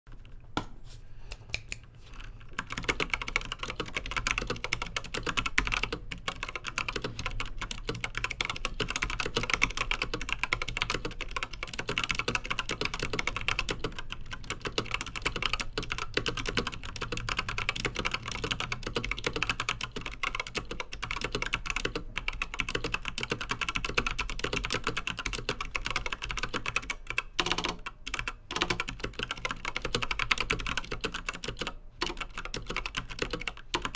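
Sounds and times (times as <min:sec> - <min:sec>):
mechanical keyboard typing: 0:02.4 - 0:33.9.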